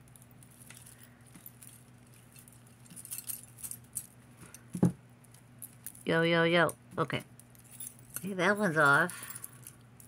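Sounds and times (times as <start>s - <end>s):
jewelry chains clinking: 0.0s - 6.1s, 7.1s - 10.0s
faint steady hum: 0.0s - 10.0s.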